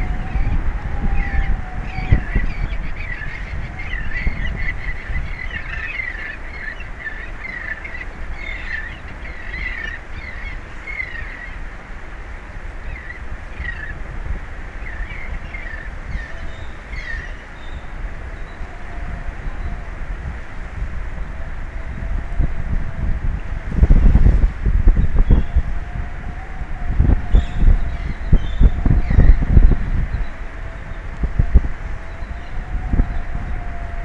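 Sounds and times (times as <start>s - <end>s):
seabirds calling: 0.0s - 22.4s, 24.9s - 33.9s.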